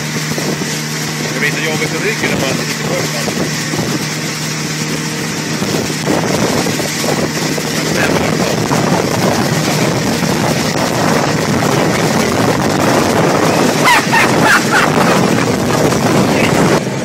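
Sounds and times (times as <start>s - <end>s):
churning wake: 0.0s - 17.0s
motorboat engine running: 0.0s - 17.0s
wind rushing: 0.0s - 17.0s.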